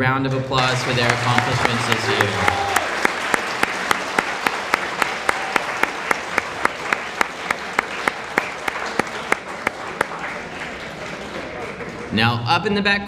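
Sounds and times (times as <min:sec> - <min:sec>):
audience applauding: 0:00.3 - 0:12.4
sharp nearby hand claps: 0:00.6 - 0:12.0.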